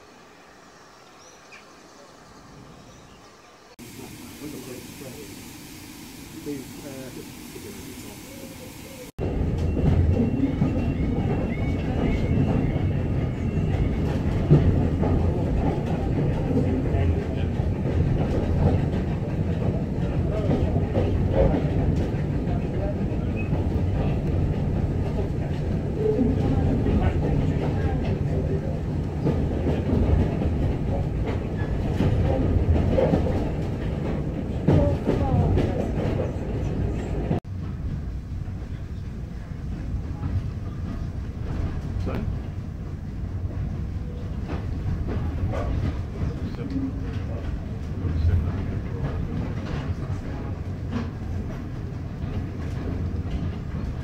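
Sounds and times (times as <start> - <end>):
train wheels rumbling on rails: 3.8 - 54.0.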